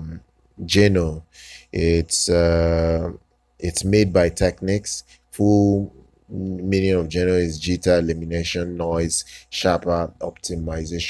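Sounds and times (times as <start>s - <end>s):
man narrating: 0.0s - 11.0s.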